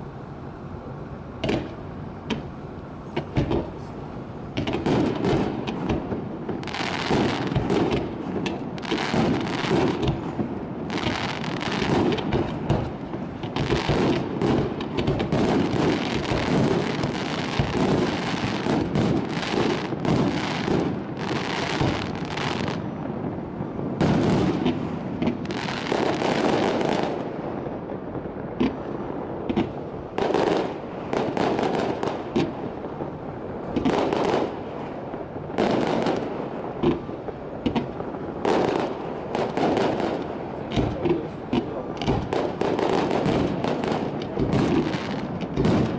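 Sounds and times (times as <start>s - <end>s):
fireworks bangs and crackles: 0.7s - 45.9s.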